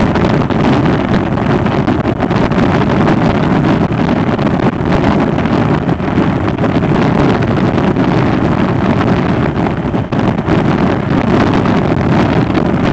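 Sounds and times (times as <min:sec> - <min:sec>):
motorcycle road noise: 0:00.0 - 0:12.9
wind buffeting microphone: 0:00.0 - 0:12.9.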